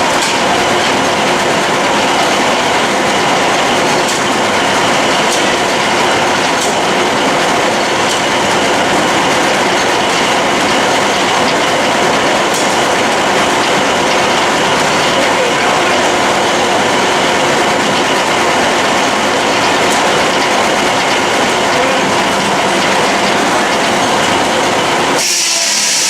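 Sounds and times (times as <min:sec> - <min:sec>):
sawmill mechanical clatter: 0:00.0 - 0:26.0.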